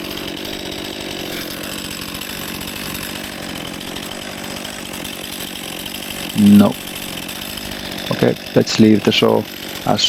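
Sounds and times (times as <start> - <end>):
chainsaw cutting tree: 0.0 - 10.0.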